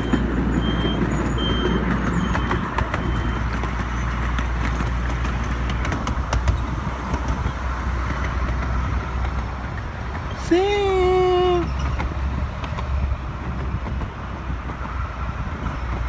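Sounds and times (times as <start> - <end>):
miniature train rumbling on track: 0.0 - 16.0.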